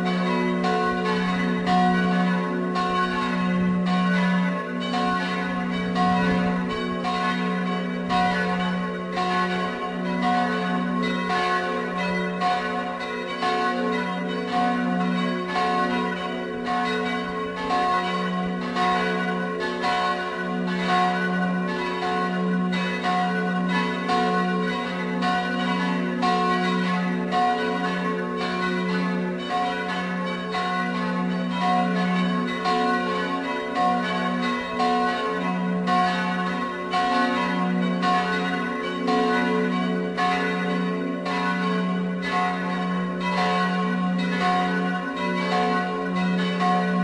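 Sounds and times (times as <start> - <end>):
church bells pealing: 0.0 - 47.0.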